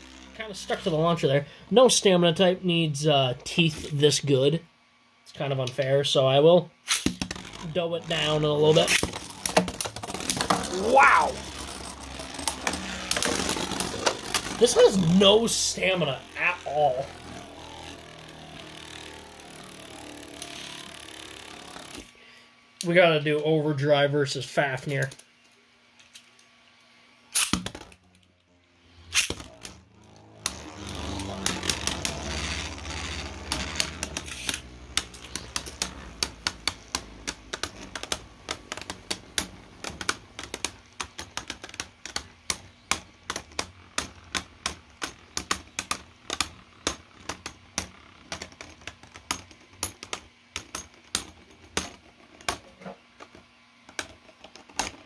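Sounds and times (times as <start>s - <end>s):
spinning tops whirring scrape: 0.0s - 2.5s, 6.8s - 22.2s, 28.6s - 55.0s.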